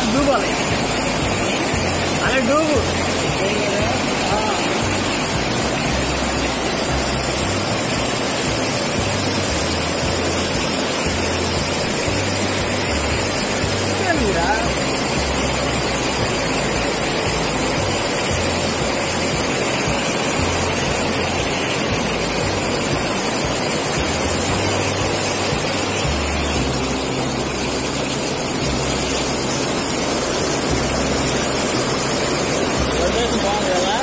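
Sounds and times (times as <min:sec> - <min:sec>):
water rushing in channel: 0:00.0 - 0:34.0.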